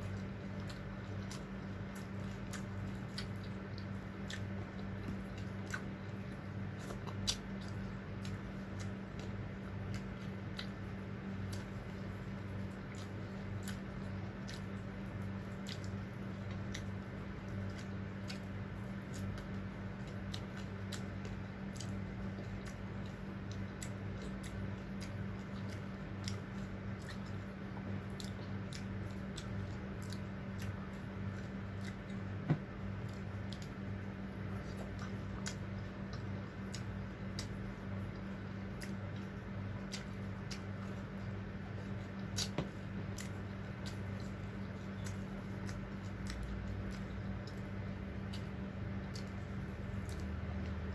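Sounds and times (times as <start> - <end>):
chewing: 0.0 - 50.9
steady low hum: 0.0 - 50.9.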